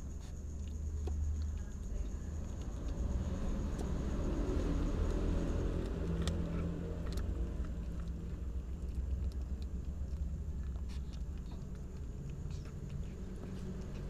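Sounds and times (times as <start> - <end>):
kittens chewing and crunching: 0.0 - 14.0
sharp clicks and smacks: 0.0 - 14.0
steady low rumble: 0.0 - 14.0.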